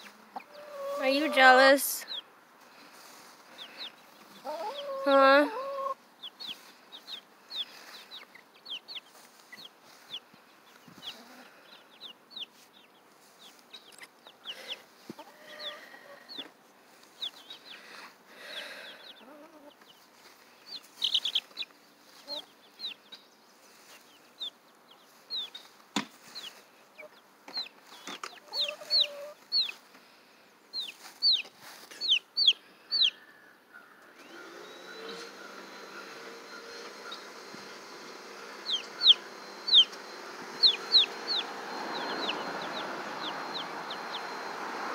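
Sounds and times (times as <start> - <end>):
hen clucking: 0.0 - 2.2, 3.5 - 10.2, 10.8 - 12.5, 13.4 - 16.5, 17.2 - 20.0, 20.7 - 23.2, 26.3 - 29.8, 30.8 - 44.9
chicks peeping: 0.0 - 30.0, 30.7 - 44.9.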